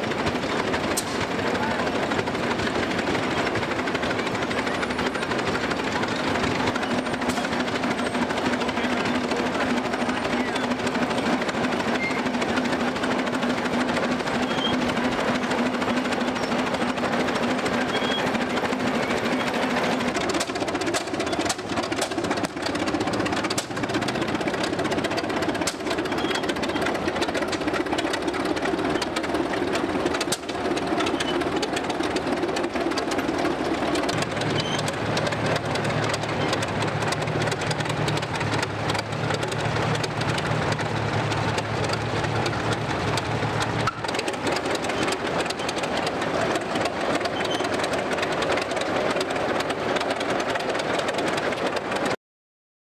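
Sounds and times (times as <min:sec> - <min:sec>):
tractor engine running: 0:00.0 - 0:52.2.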